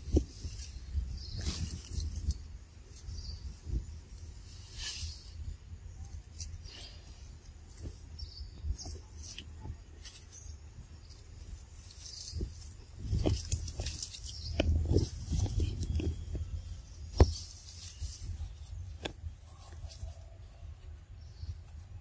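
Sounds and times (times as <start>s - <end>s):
leaves and branches rustling: 0.0s - 22.0s
wind rumble on microphone: 0.0s - 22.0s.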